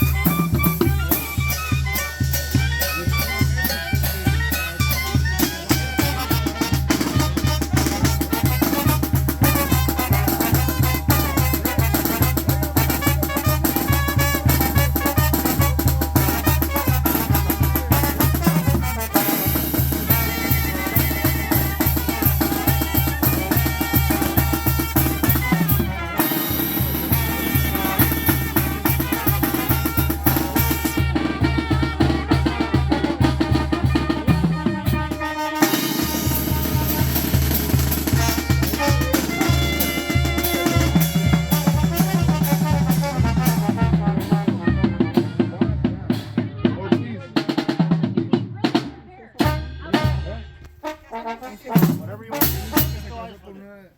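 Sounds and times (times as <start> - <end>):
bass drum beat: 0.0 - 53.4
brass band playing: 0.0 - 53.8.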